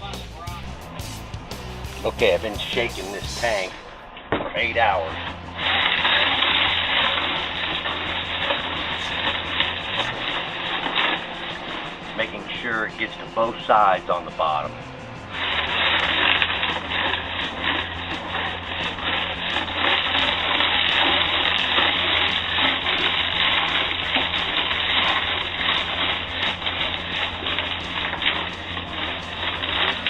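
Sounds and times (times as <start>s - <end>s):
liquid sloshing in tank: 3.4s - 14.6s, 15.2s - 30.0s.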